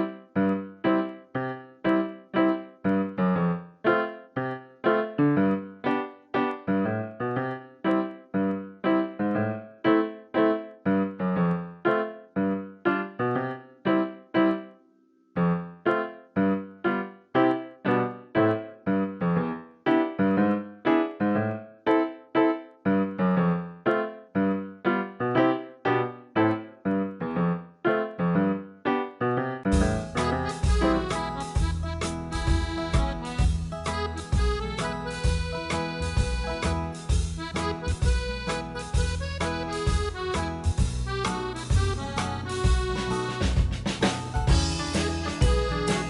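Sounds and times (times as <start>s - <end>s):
keyboard notes and chords: 0.0s - 46.0s.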